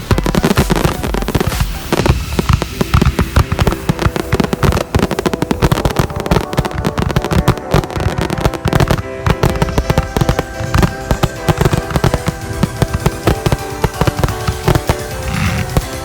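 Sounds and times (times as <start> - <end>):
crackling fireworks: 0.0 - 16.0
music playing: 0.0 - 16.0.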